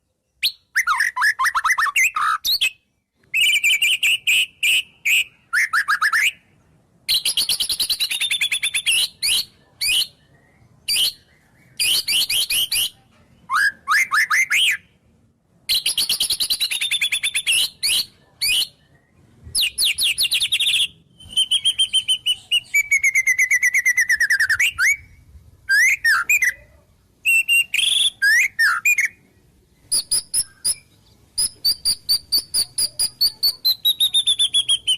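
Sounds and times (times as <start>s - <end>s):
songbird singing trills and whistles: 0.2s - 15.0s, 15.7s - 34.9s.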